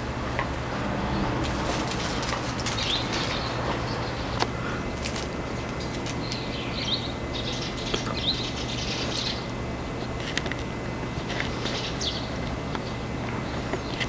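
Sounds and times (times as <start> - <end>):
small birds chirping: 0.0 - 9.6, 11.2 - 14.0
steady low hum: 0.0 - 14.0.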